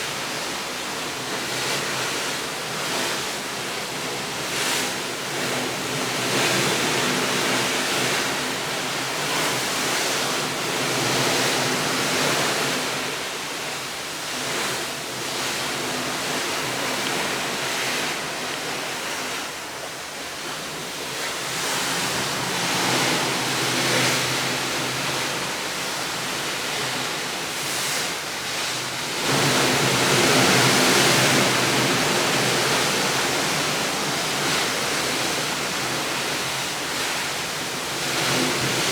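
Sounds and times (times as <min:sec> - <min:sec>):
surf washing ashore: 0:00.0 - 0:38.9.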